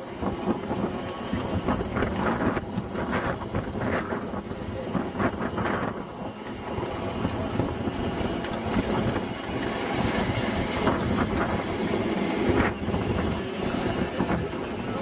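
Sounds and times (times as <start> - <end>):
train wheels rumbling on rail: 0.0 - 15.0
wind on microphone: 0.0 - 15.0.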